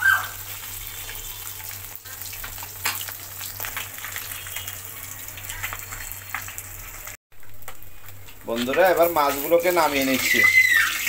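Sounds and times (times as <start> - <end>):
fish deep-frying in hot oil: 0.0 - 11.0.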